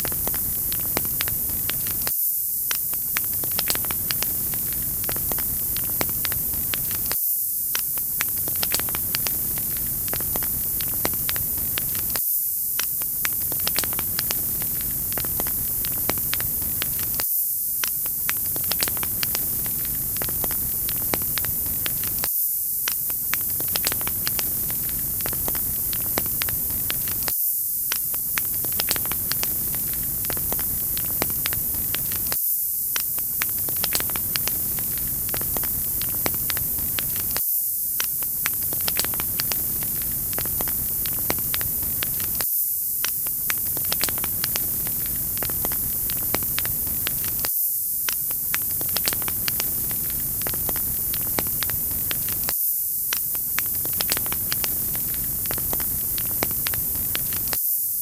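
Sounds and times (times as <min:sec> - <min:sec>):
wood fire crackling: 0:00.0 - 0:02.1, 0:02.7 - 0:12.2, 0:12.8 - 0:17.2, 0:17.8 - 0:22.3, 0:22.9 - 0:27.3, 0:28.0 - 0:37.4, 0:38.0 - 0:42.4, 0:43.0 - 0:52.5, 0:53.1 - 0:57.6.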